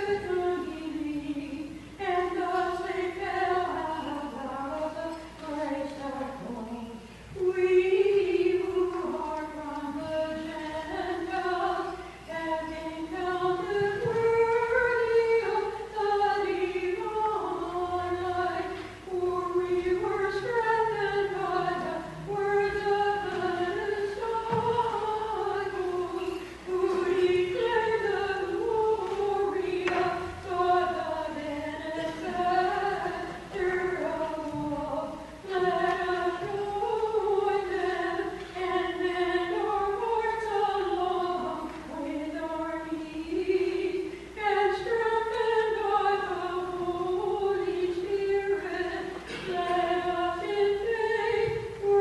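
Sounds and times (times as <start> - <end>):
church choir singing a hymn: 10.1 - 52.0.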